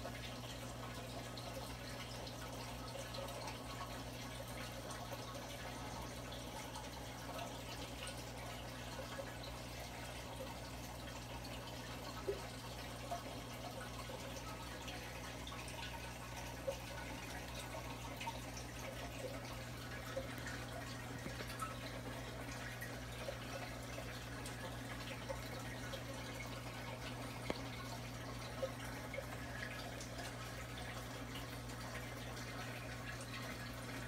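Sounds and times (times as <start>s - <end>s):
low electrical hum: 0.0s - 34.0s
water trickling and dripping: 0.0s - 34.0s.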